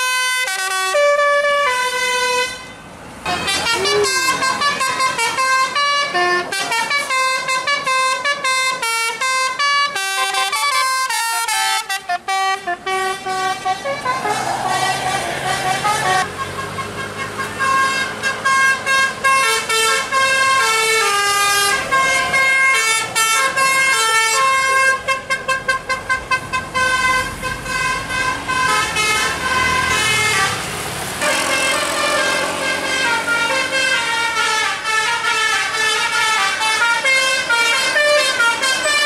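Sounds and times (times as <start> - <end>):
diesel engines of passing buses: 0.0 - 39.0
musical bus horns: 0.0 - 39.0.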